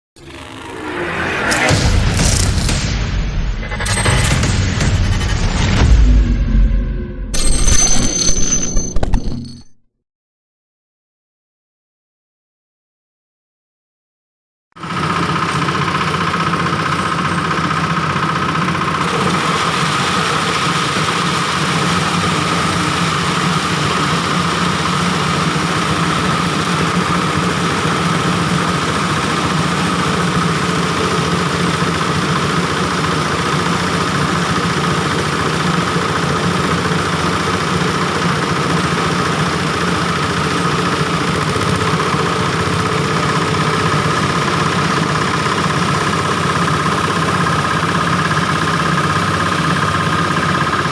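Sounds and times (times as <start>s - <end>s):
machine engine hum and whine: 0.2s - 9.6s, 14.8s - 50.9s.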